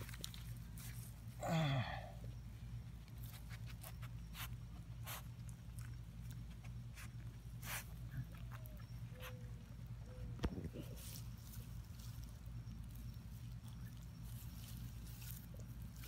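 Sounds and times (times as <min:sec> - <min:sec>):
grass rustling: 0:00.0 - 0:01.5, 0:02.8 - 0:16.0
low steady hum: 0:00.0 - 0:16.0
dog sniffing and snuffling: 0:02.2 - 0:16.0.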